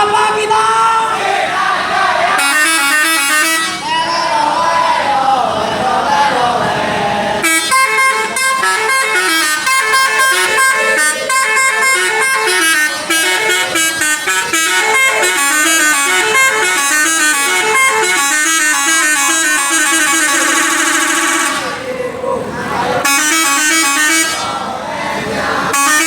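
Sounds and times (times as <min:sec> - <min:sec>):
voices: 0:00.0 - 0:26.0
bus air horns playing melody: 0:01.1 - 0:05.0, 0:07.3 - 0:21.9, 0:22.8 - 0:24.8, 0:25.4 - 0:26.0.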